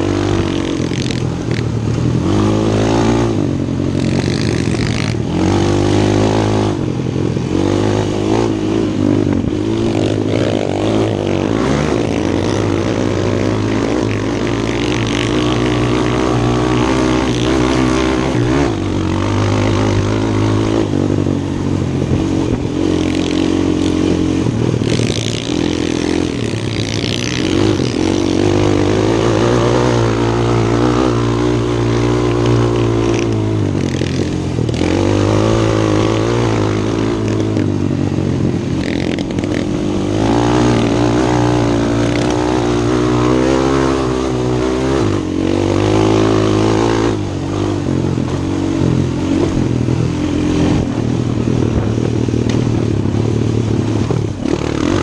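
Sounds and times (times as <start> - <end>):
quad bike engine revving: 0.0 - 55.0
wind and track noise hiss: 0.0 - 55.0.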